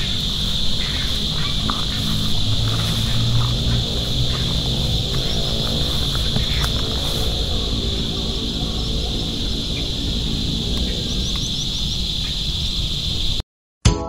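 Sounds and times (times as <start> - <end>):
bird chirps: 0.0 - 13.4
high-pitched insect drone: 0.0 - 13.4
low rumble: 0.0 - 13.4.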